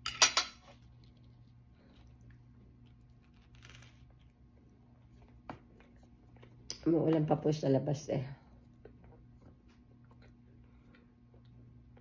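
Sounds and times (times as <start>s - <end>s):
low room hum: 0.0s - 12.0s
chewing soft bread: 0.7s - 6.8s, 8.5s - 12.0s.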